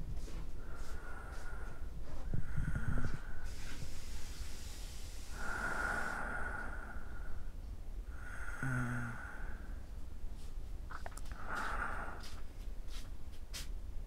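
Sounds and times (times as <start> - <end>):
person breathing heavily: 0.2 - 13.0.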